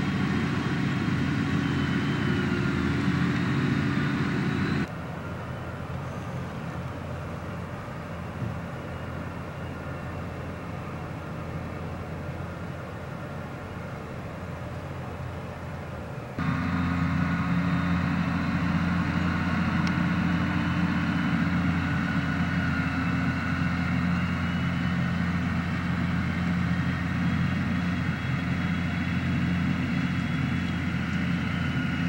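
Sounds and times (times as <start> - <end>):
tractor diesel engine droning: 0.0 - 32.0.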